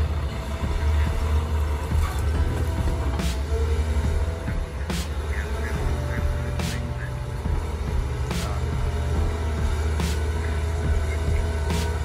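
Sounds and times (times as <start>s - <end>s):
excavator diesel engine rumble: 0.0s - 12.0s
background music with beat: 0.2s - 12.0s.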